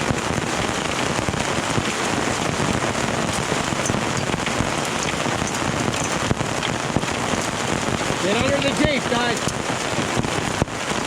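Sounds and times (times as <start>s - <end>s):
hail and rain pelting: 0.0s - 11.0s.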